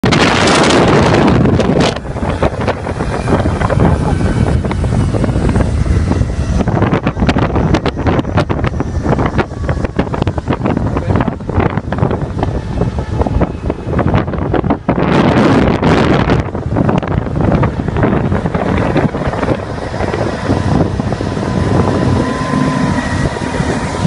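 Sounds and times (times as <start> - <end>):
boat engine and hull rumble: 0.0 - 24.0
wind buffeting microphone: 0.0 - 24.0.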